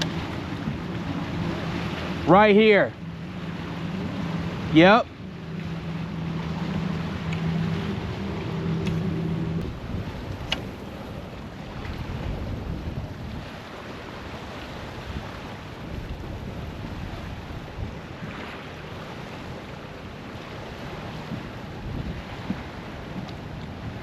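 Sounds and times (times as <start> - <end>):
water lapping against kayak: 0.0 - 24.0
wind buffeting microphone: 0.0 - 24.0.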